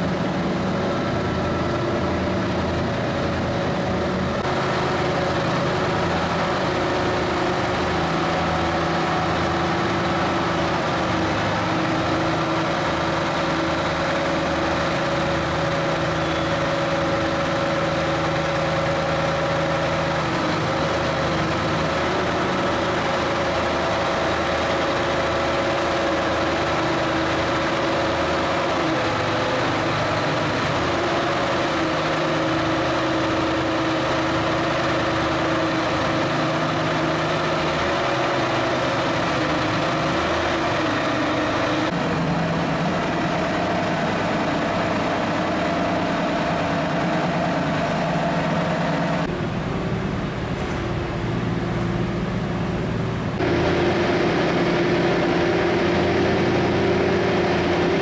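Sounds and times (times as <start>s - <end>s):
diesel engine running at low revs: 0.0s - 58.0s.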